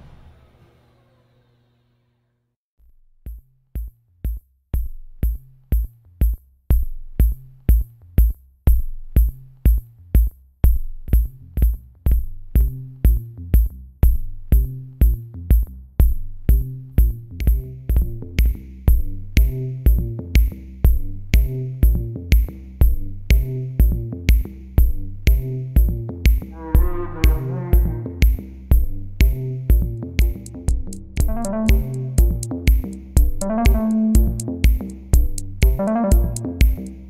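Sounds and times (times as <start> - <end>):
electronic music with drum beat: 3.3 - 37.0.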